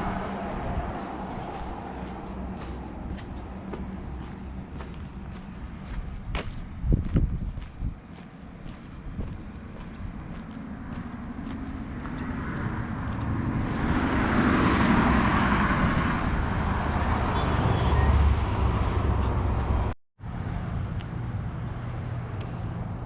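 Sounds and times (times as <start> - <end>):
vehicle road noise: 0.0 - 23.0.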